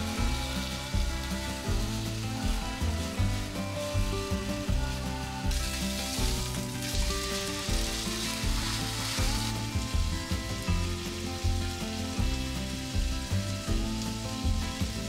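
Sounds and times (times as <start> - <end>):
soft background music: 0.0 - 15.0
steaks sizzling in frying pan: 0.0 - 15.0.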